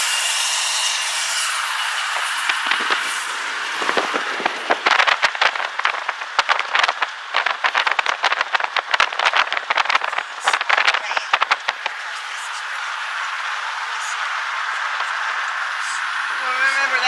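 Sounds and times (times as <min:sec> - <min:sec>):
road and wind noise in car: 0:00.0 - 0:17.0
rapid irregular crackle: 0:02.2 - 0:16.1.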